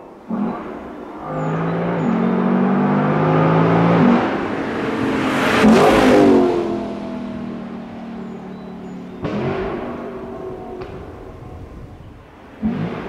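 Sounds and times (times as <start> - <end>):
car engine accelerating past: 0.3 - 13.0.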